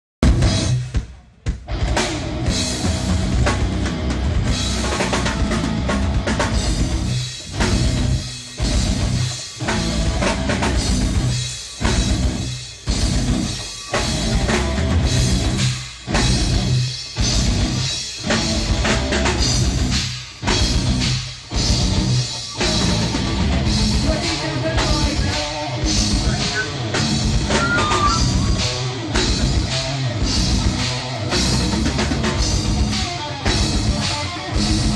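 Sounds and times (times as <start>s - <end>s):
drum kit and bass drum: 0.2s - 34.9s
rock band playing: 0.2s - 34.9s.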